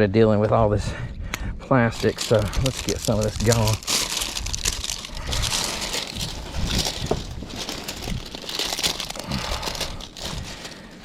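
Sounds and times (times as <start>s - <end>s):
plastic sheeting crinkling: 1.9s - 11.0s.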